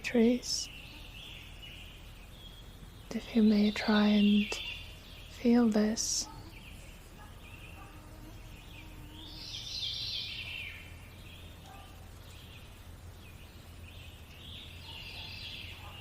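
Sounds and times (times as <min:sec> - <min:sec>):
birds chirping and twittering: 0:00.0 - 0:16.0
low steady hum: 0:00.0 - 0:16.0.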